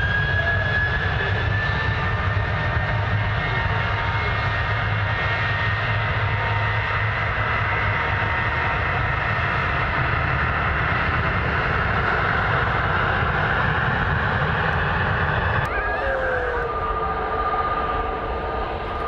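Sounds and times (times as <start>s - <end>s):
jet engines rumbling with whine: 0.0s - 19.0s.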